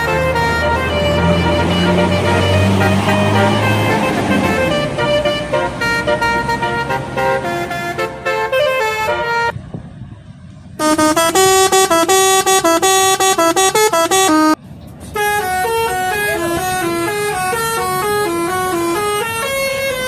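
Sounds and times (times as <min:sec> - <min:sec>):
bus horn playing melodic runs: 0:00.0 - 0:09.6, 0:10.8 - 0:20.0.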